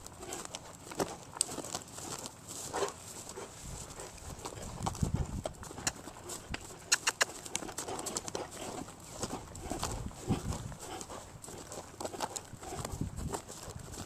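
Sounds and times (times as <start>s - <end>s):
horse hoofbeats on ground: 0.0s - 14.0s.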